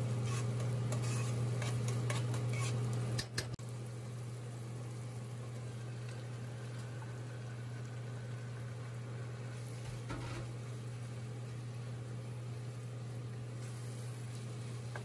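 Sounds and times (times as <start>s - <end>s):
curry sizzling and bubbling: 0.0s - 15.0s.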